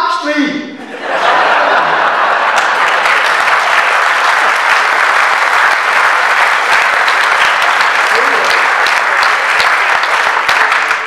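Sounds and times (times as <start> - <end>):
audience applauding: 1.2 - 11.0.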